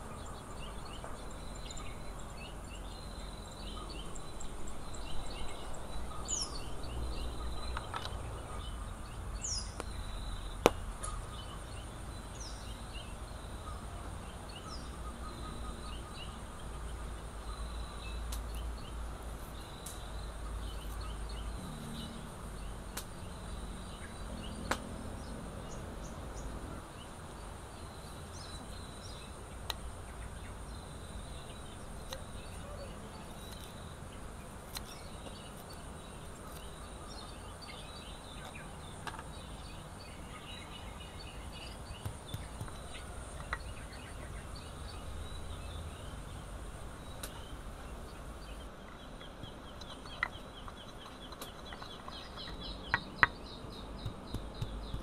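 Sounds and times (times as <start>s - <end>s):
bird chirps: 0.0s - 55.0s.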